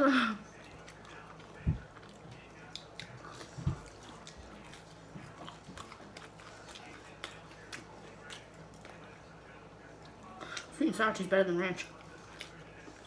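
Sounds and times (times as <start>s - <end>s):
chewing chicken nuggets: 0.4s - 10.8s, 11.8s - 13.0s.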